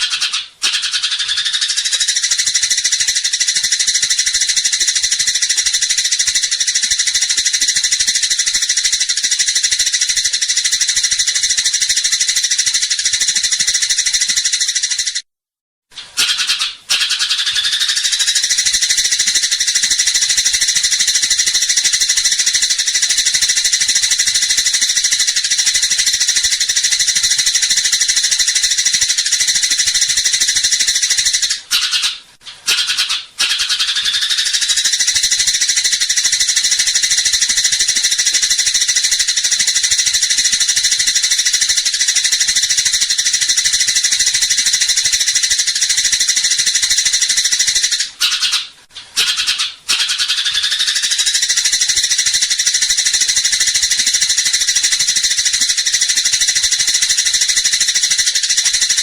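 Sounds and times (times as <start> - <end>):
sparrows buzzy chatter: 0.0 - 15.2, 16.2 - 59.0.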